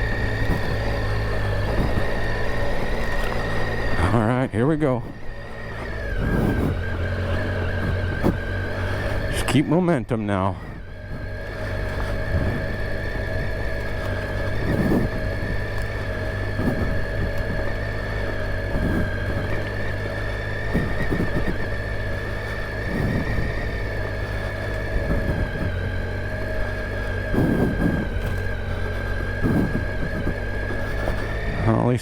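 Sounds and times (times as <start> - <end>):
high whine: 0.0 - 32.0
motorcycle engine running: 0.0 - 32.0.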